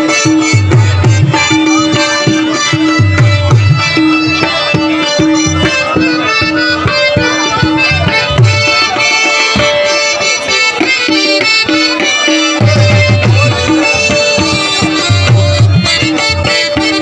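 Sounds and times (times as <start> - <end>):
sustained melody line: 0.0 - 17.0.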